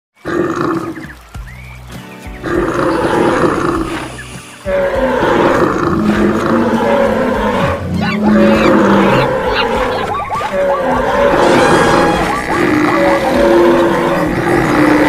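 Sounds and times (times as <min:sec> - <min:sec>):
music: 0:00.2 - 0:15.0
animal roars and calls: 0:02.4 - 0:15.0.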